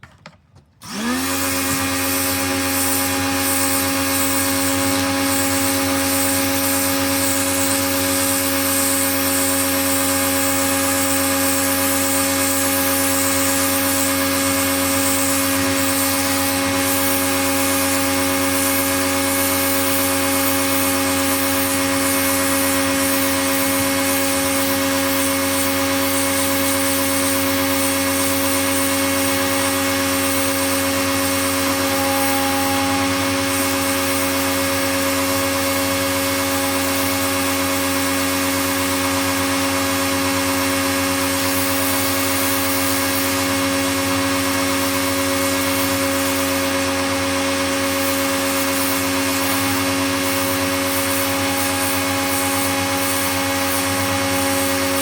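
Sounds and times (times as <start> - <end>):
pressure washer running: 0.0 - 55.0.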